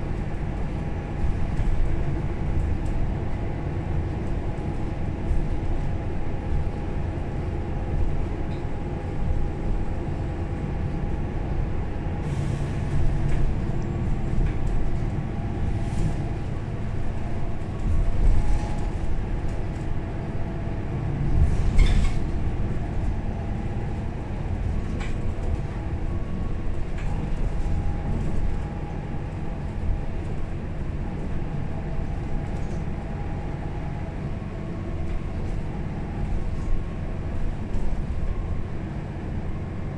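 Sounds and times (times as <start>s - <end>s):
bus engine humming: 0.0s - 39.9s
road rumble: 0.0s - 39.9s.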